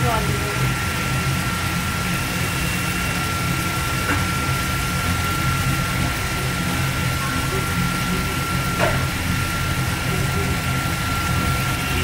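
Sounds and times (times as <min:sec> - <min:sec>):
low machine hum: 0:00.0 - 0:12.0
thin high whine: 0:00.0 - 0:12.0.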